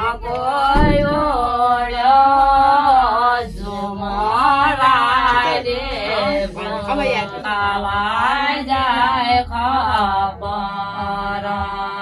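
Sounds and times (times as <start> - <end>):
group of women singing: 0.0 - 12.0.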